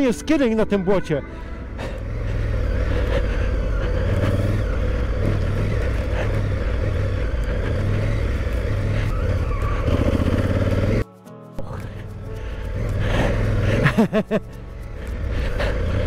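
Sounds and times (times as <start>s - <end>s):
motorcycle engine rumble: 0.8s - 11.0s, 11.6s - 16.0s.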